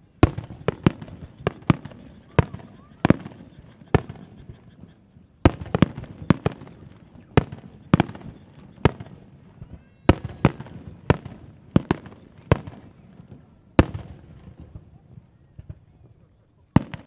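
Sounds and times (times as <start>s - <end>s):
firework shells bursting: 0.2s - 16.2s.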